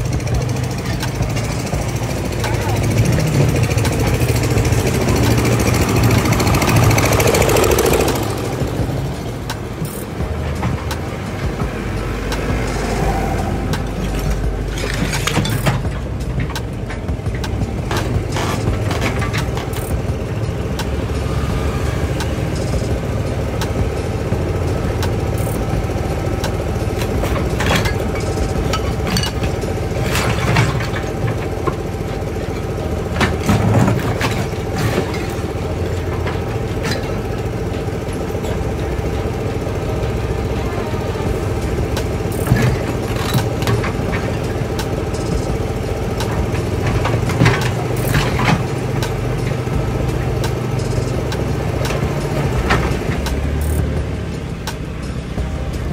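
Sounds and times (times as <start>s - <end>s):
engine running with low hum: 0.0s - 55.9s
sharp knocks and clanks: 0.0s - 55.9s.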